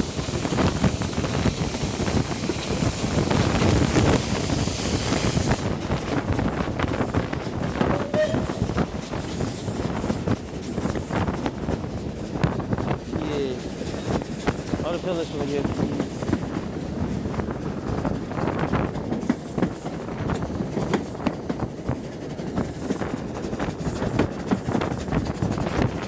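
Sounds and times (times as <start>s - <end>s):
train wheels on rails: 0.0s - 26.0s
wind buffeting microphone: 0.0s - 26.0s.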